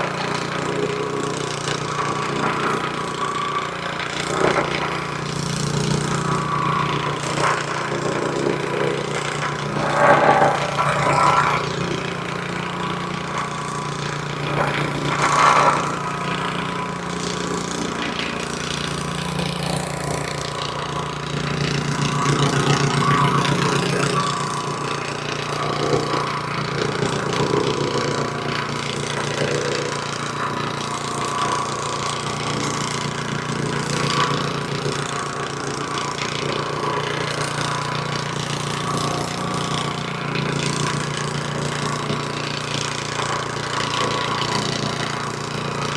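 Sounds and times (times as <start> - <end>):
plate compactor engine running: 0.0 - 45.9.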